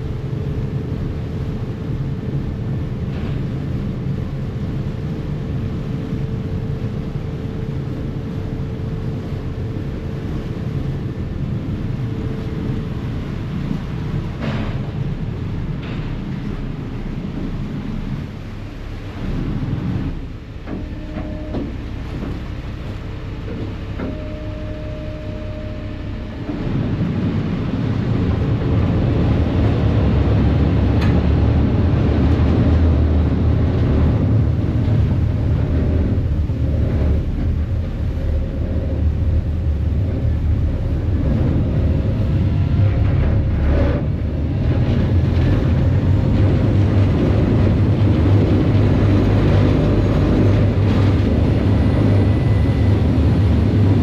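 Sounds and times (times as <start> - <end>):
ferry diesel engines rumbling: 0.0 - 54.0.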